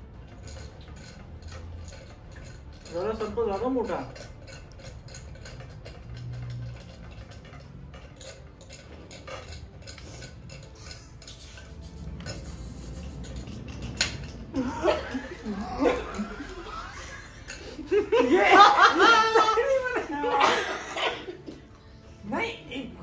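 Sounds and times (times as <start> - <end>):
pointed tools scratching candy: 0.0 - 21.6.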